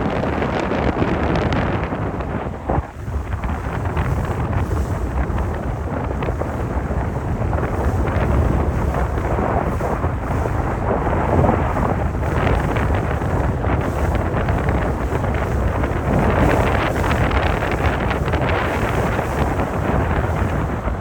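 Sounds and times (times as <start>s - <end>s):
water noise: 0.0s - 21.0s
wind buffeting microphone: 0.0s - 21.0s.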